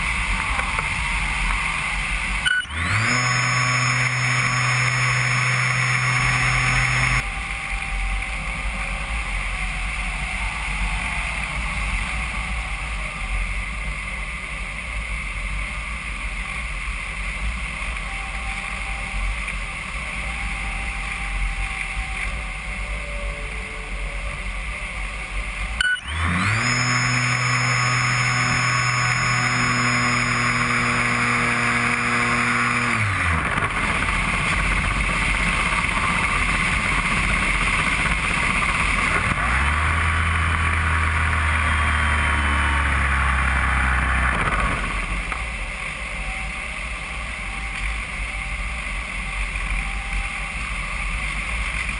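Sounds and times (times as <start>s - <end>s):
model airplane motor whine: 0.0s - 13.9s, 17.5s - 51.9s.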